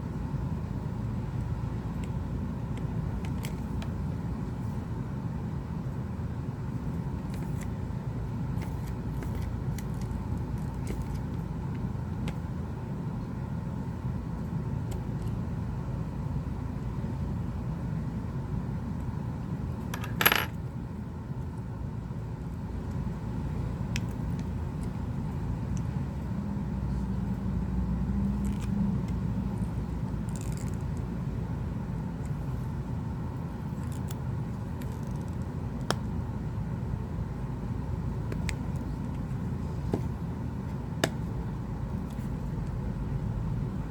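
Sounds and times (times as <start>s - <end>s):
low background rumble: 0.0s - 43.9s.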